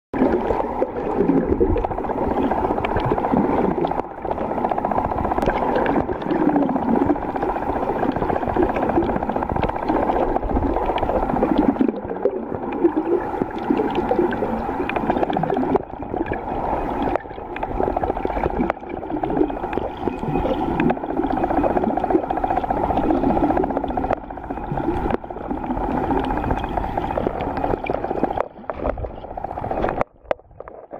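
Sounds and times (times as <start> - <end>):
underwater water sloshing and gurgling: 0.1 - 30.9.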